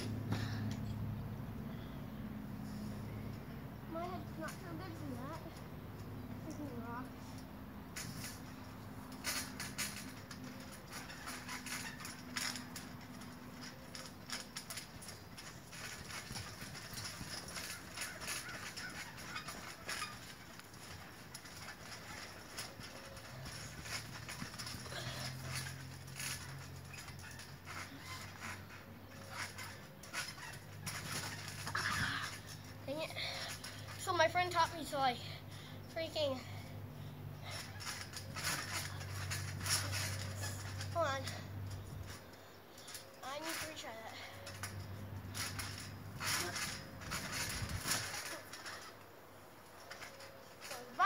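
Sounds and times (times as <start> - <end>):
trampoline springs creaking: 0.0 - 51.0.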